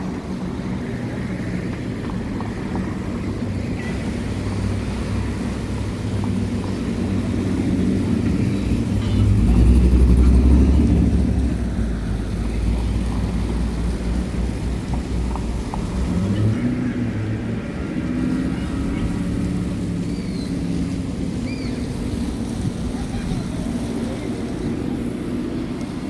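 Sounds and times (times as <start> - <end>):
bicycle road noise: 0.0 - 26.0.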